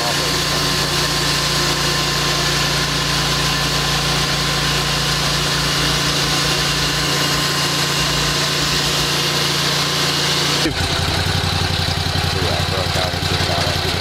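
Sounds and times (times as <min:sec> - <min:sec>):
band sawmill running: 0:00.0 - 0:14.0.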